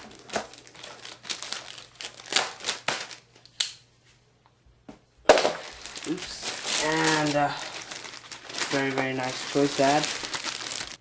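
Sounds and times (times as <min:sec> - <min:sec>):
plastic packaging crinkling: 0:00.0 - 0:03.3, 0:05.3 - 0:11.0.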